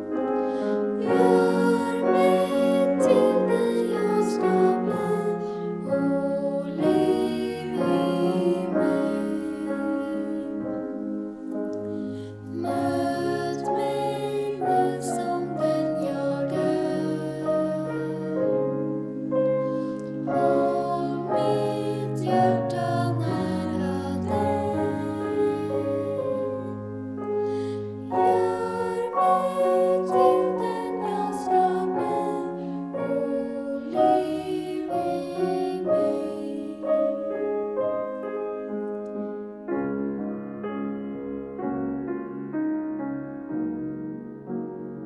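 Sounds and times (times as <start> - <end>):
piano accompaniment: 0.0 - 45.0
young voices singing: 0.5 - 11.2, 11.9 - 37.3.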